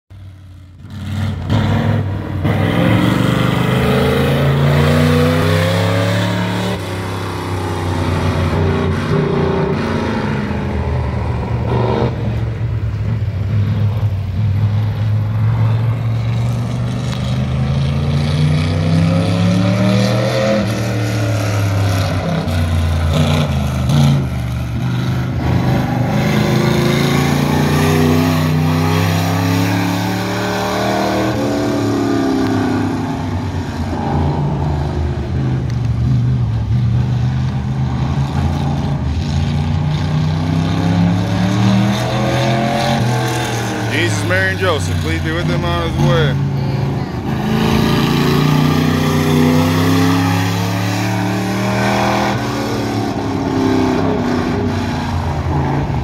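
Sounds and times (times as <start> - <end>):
race car engine revving: 0.4 - 56.0.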